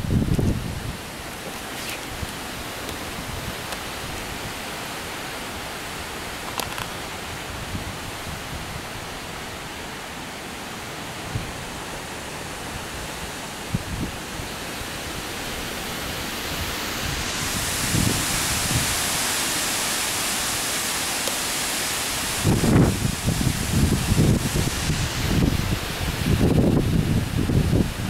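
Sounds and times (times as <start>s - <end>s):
wind gusts thumping microphone: 0.0s - 5.1s, 6.2s - 9.7s, 12.7s - 21.4s, 22.0s - 28.0s
heavy rain pouring: 0.0s - 28.0s.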